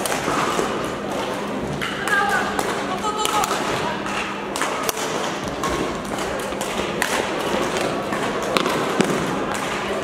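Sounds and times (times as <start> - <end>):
rackets hitting shuttlecock: 0.0 - 10.0
sports hall din: 0.0 - 10.0.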